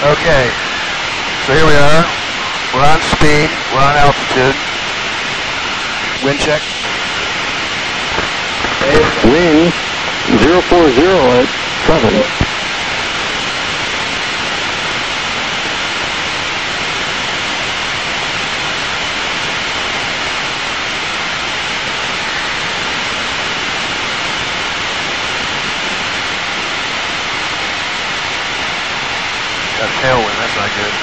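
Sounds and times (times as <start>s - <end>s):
jet cockpit engine and airflow noise: 0.0s - 31.0s.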